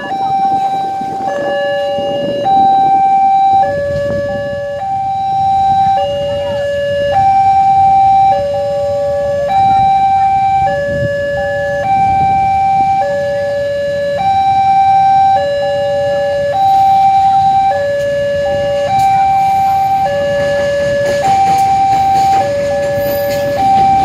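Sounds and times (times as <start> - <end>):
traffic rumble: 0.0 - 24.0
two-tone level crossing alarm: 0.0 - 24.0.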